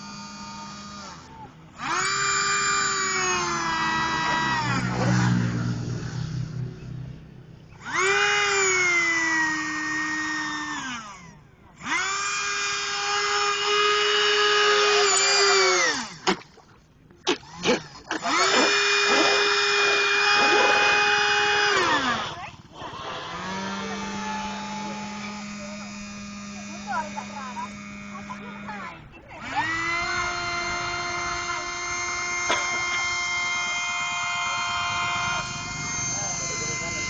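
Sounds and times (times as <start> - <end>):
model boat electric motor whining: 0.0 - 37.0.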